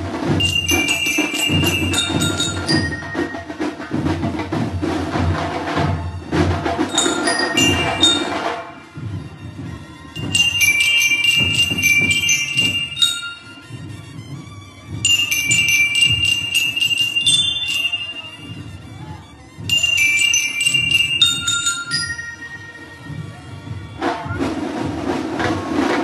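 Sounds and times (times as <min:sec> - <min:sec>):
bell lyres playing a melody: 0:00.0 - 0:04.3, 0:06.8 - 0:14.2, 0:15.0 - 0:24.4
marching band drum beat: 0:00.0 - 0:26.0.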